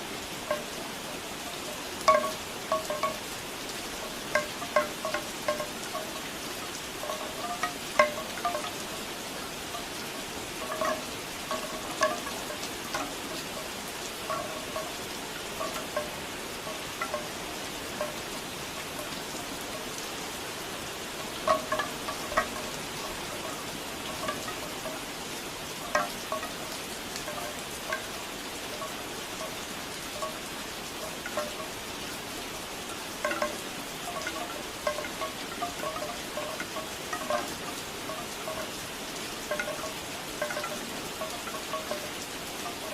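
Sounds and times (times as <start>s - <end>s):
bamboo wind chimes knocking: 0.0s - 20.2s, 20.8s - 42.9s
steady rain hiss: 0.0s - 42.9s.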